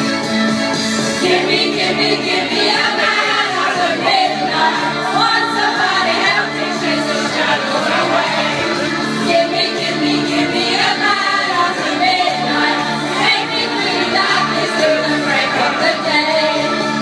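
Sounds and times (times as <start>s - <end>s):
karaoke backing track: 0.0s - 17.0s
women singing together: 1.2s - 17.0s.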